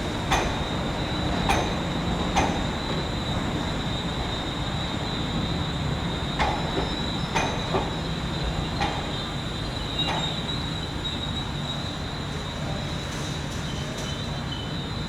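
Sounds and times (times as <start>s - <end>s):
train wheel squeal: 0.0s - 15.0s.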